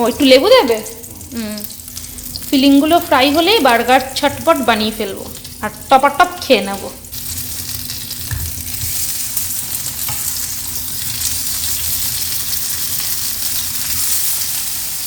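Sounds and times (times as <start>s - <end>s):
burger sizzling in a pan: 0.0s - 15.0s.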